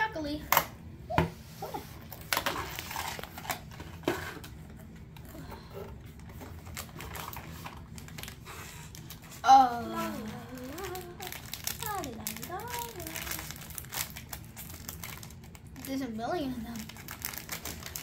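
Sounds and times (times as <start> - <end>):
plastic wrapper crinkling: 2.0 - 5.4, 6.0 - 18.0.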